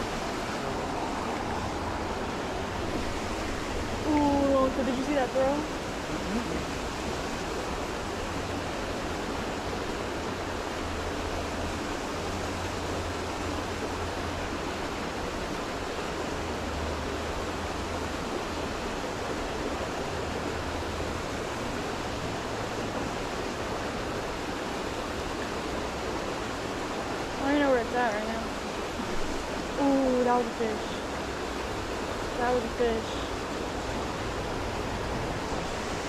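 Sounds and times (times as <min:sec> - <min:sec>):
fast-flowing creek rushing: 0:00.0 - 0:36.0.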